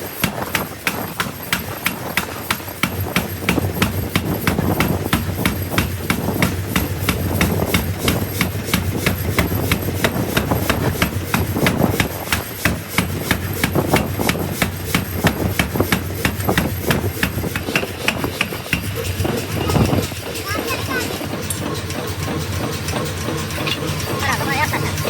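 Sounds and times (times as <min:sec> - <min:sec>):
factory machine clattering: 0:00.0 - 0:25.0.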